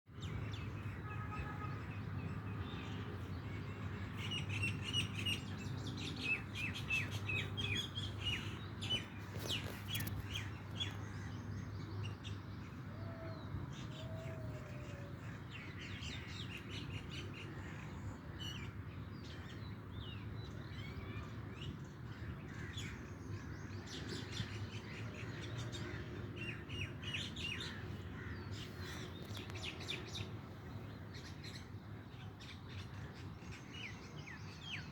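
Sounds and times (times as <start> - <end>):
songbirds chirping: 0.1 - 34.9.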